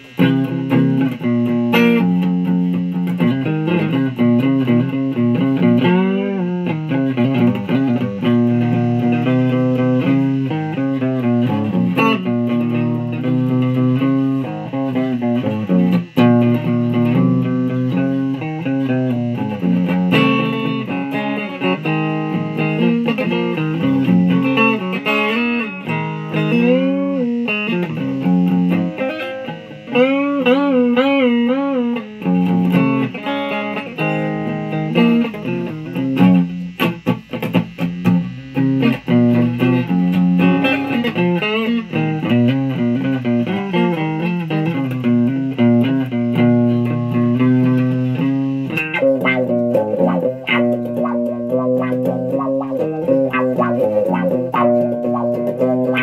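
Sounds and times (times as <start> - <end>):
fuzz electric guitar lead: 0.0 - 56.0.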